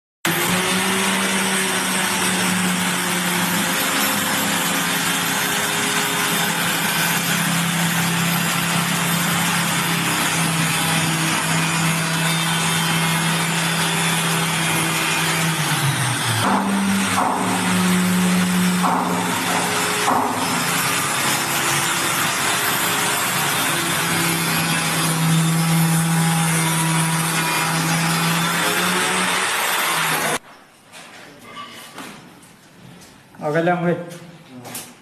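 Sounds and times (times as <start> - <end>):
power tool cutting wood: 0.3 - 30.4.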